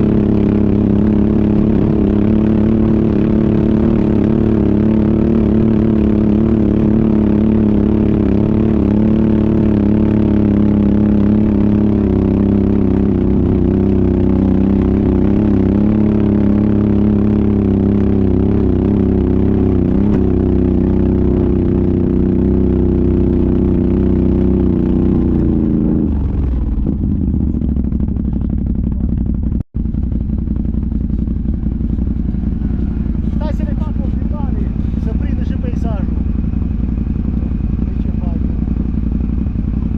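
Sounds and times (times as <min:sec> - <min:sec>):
atv engine running under load: 0:00.0 - 0:39.9.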